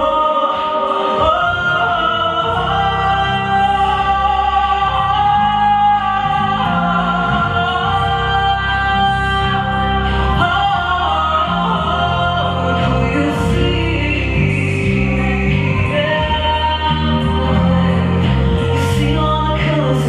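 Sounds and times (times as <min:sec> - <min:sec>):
live-looped music: 0:00.0 - 0:20.0
person singing long notes: 0:00.0 - 0:20.0
bass guitar line: 0:01.2 - 0:20.0.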